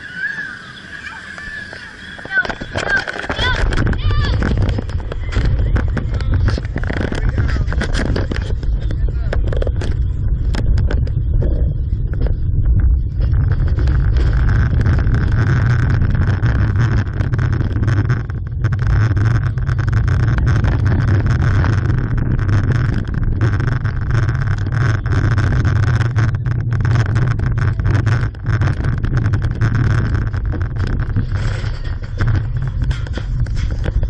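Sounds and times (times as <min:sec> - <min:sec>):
truck engine rumble: 0:00.0 - 0:34.0
wind buffeting microphone: 0:00.8 - 0:34.0
small rattles: 0:02.2 - 0:34.0.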